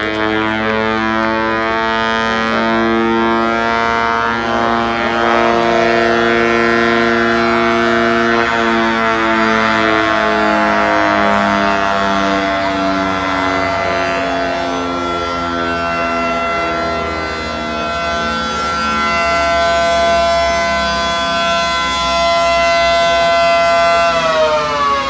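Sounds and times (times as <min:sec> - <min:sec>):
air-raid siren wailing: 0:00.0 - 0:25.0.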